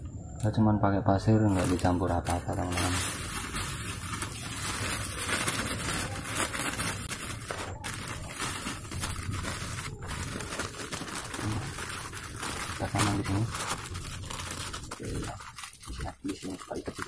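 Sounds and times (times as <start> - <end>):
plastic bag crinkling: 1.5 - 17.0.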